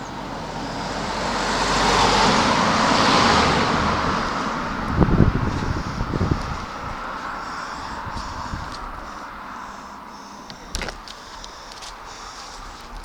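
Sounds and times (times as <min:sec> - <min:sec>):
road vehicle passing by: 0:00.0 - 0:13.0.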